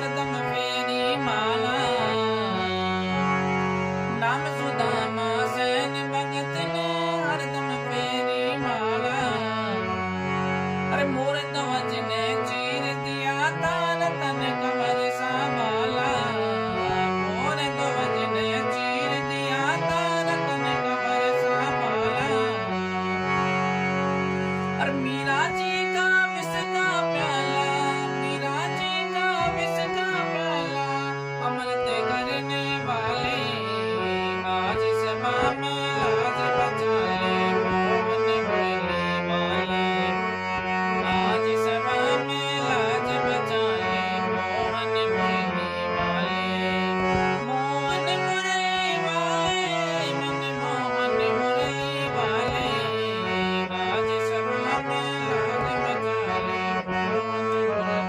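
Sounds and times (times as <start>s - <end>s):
man singing: 0.0s - 23.6s, 24.4s - 58.0s
harmonium melody: 0.0s - 58.0s.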